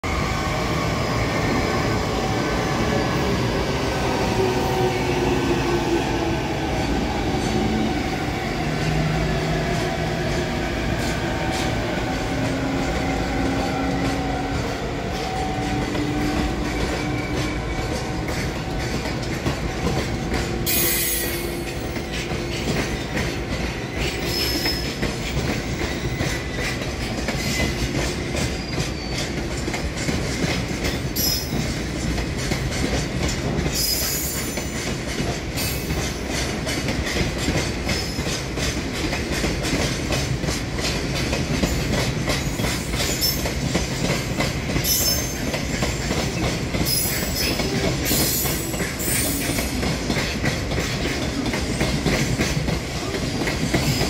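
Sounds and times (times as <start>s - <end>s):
train rumble: 0.0s - 54.0s
wheels clacking over rail joints: 8.8s - 54.0s.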